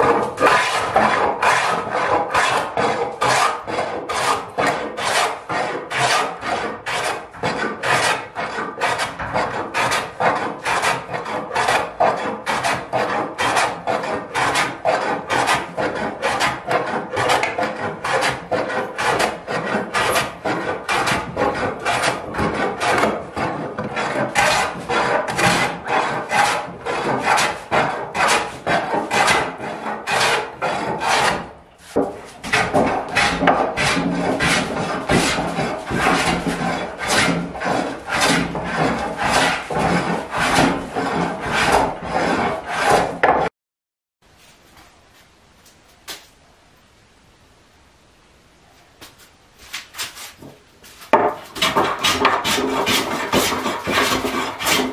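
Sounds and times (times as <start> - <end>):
hand plane shaving wood: 0.0 - 43.5, 50.0 - 54.9.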